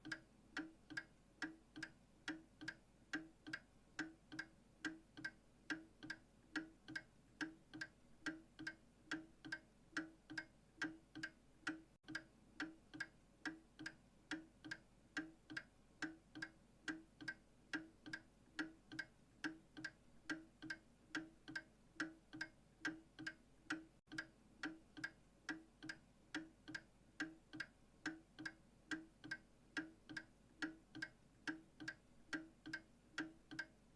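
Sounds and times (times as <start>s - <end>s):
clock ticking: 0.0s - 33.9s.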